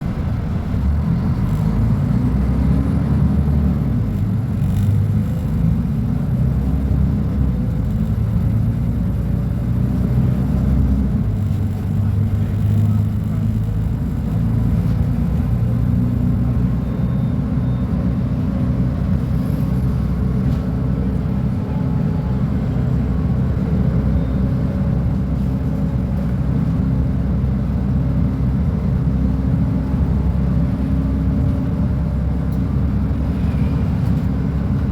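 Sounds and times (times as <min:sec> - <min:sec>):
bus diesel engine rumbling: 0:00.0 - 0:34.9.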